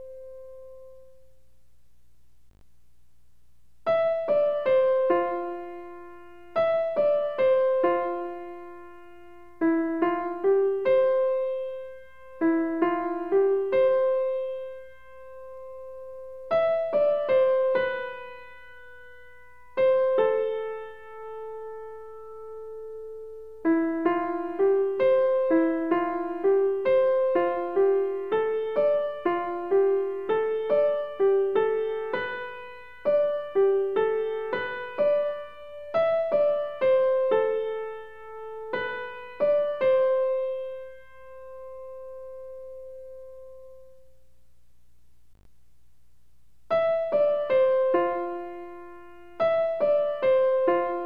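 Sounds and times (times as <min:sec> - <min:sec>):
piano melody: 0:00.0 - 0:01.3, 0:03.9 - 0:44.2, 0:46.7 - 0:51.0.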